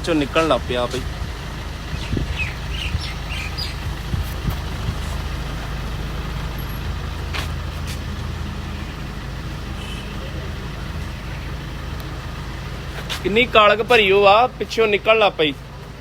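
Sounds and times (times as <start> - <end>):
diesel car engine idling: 0.0 - 16.0.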